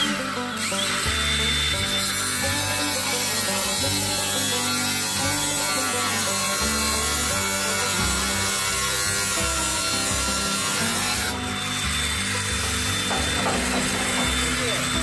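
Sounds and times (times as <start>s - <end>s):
angle grinder cutting steel: 0.0s - 15.0s.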